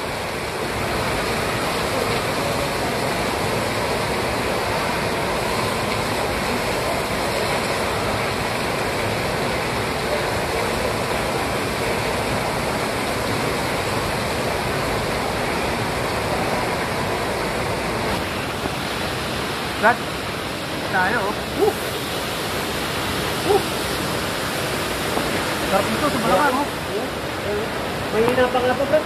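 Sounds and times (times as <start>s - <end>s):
falling water rushing: 0.0s - 29.0s.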